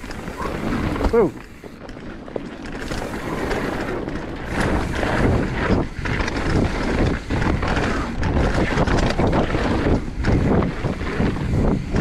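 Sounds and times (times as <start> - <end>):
bike knocking and rattling: 0.0 - 12.0
tyre rumble on dirt: 0.0 - 12.0
wind buffeting microphone: 0.0 - 12.0.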